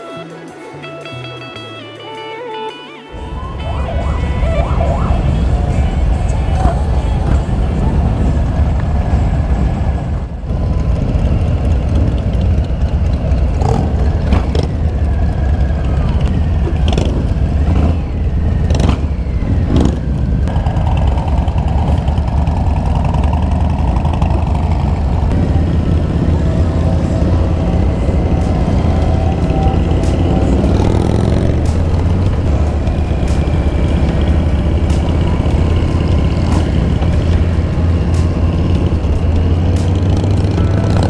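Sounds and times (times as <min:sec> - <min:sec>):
motorcycle engine running: 0:03.2 - 0:41.0
other motorcycle engines revving: 0:03.5 - 0:41.0.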